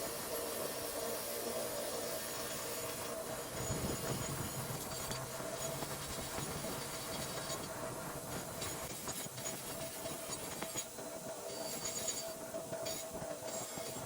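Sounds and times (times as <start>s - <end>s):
workshop machine whirring: 0.0s - 14.0s.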